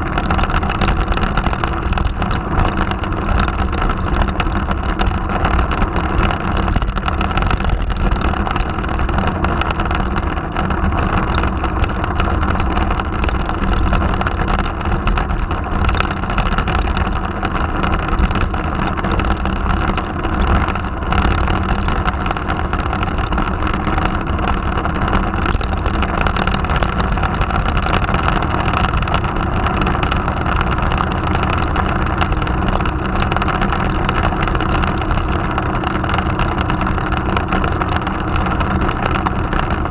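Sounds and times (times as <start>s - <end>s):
motorcycle engine cruising: 0.0s - 39.9s
wind and road rush: 0.0s - 39.9s.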